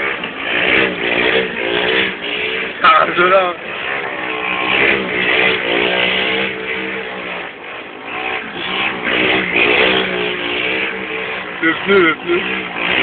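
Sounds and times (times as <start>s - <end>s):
go-kart engine revving: 0.0s - 13.0s.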